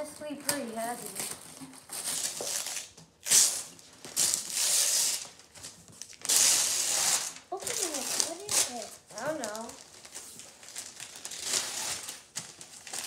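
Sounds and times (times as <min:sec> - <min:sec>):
wrapping paper tearing: 0:00.5 - 0:13.0.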